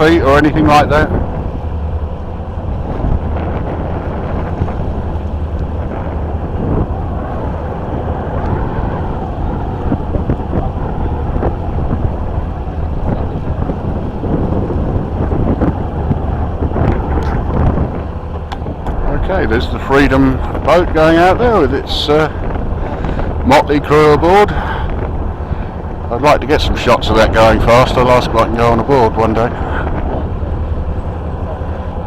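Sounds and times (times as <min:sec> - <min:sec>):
boat engine low rumble: 0:00.0 - 0:32.0
rushing water: 0:00.0 - 0:32.0
wind buffeting microphone: 0:00.0 - 0:32.0.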